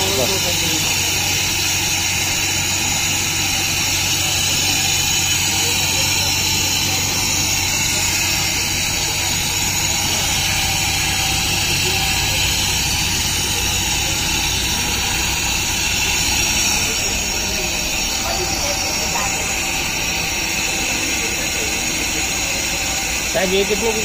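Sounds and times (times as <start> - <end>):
hiss: 0.0 - 24.0
machine motor whirring hum: 0.0 - 24.0.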